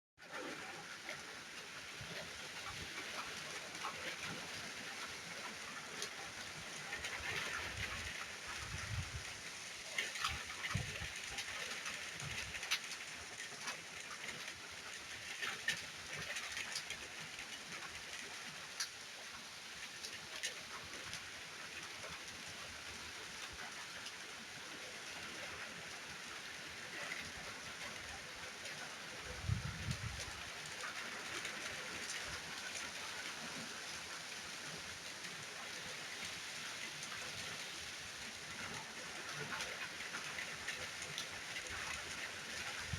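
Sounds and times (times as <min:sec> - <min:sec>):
steady rain hiss: 0:00.2 - 0:42.9
raindrop ticking on surface: 0:02.1 - 0:42.9.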